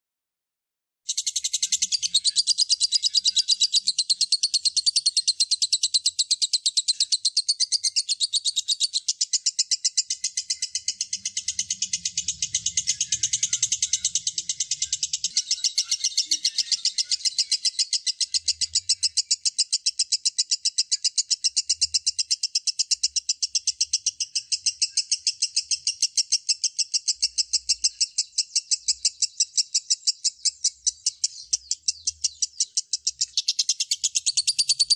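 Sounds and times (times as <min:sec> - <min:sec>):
lovebird chattering song: 0:01.1 - 0:34.9.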